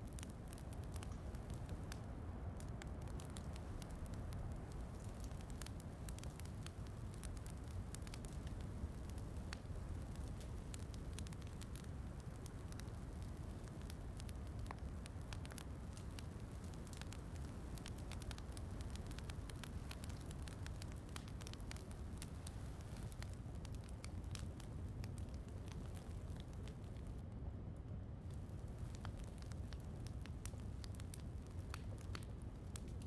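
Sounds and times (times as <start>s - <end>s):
soft rain: 0.0s - 33.0s
wood fire crackling: 0.0s - 33.0s.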